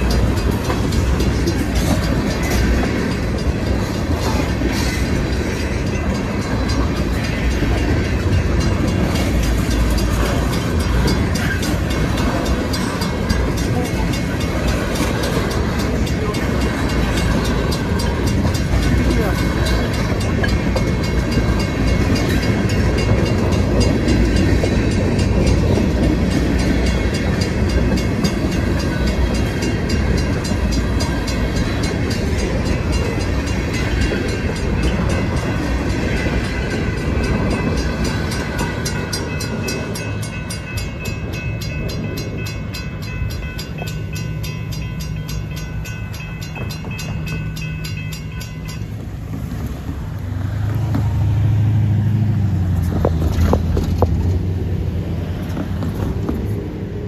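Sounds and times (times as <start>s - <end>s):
crossing bell ringing: 0.0s - 57.0s
train wheels clacking on rails: 0.0s - 57.0s.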